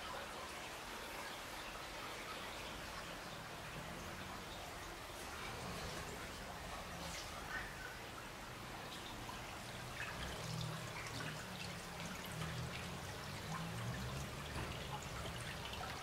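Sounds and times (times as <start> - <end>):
brook trickling over stones: 0.0 - 16.0.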